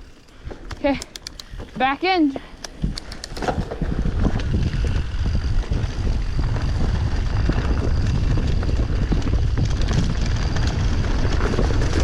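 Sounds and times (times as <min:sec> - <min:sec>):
bike tyres on dirt: 0:00.0 - 0:12.0
wind rumble on microphone: 0:00.0 - 0:12.0.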